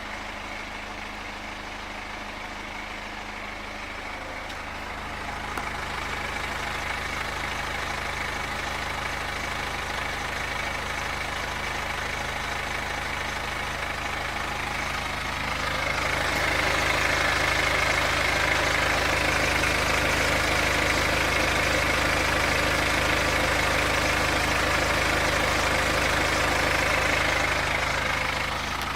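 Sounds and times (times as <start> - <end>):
diesel engine idling: 0.0 - 28.9
strange engine noise: 0.0 - 28.9.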